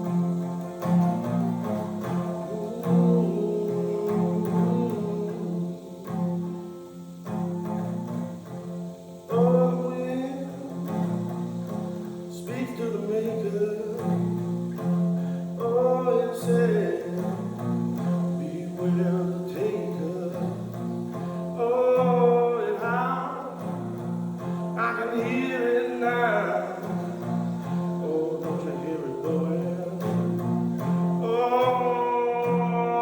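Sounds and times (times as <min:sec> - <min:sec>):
person singing: 0:00.0 - 0:07.1, 0:08.8 - 0:33.0
guitar: 0:00.0 - 0:33.0
held low notes: 0:00.0 - 0:33.0.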